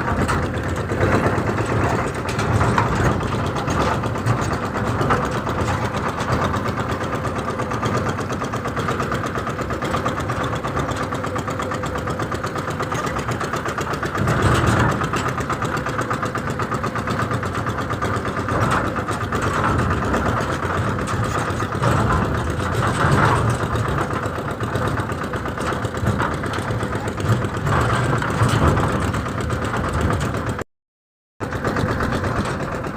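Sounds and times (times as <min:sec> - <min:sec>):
tractor engine running: 0:00.0 - 0:30.7, 0:31.4 - 0:32.9.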